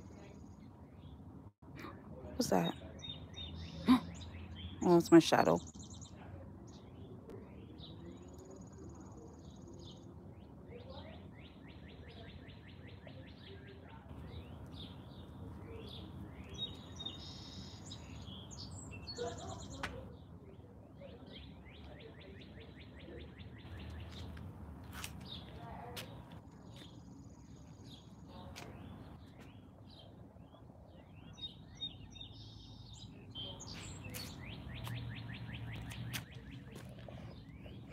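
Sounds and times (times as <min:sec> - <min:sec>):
songbirds trilling: 0:02.4 - 0:37.9.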